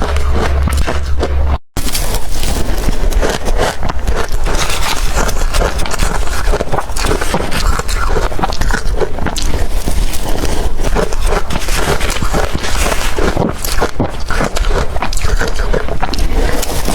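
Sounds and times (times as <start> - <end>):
chewing crushed ice: 0.0 - 16.9.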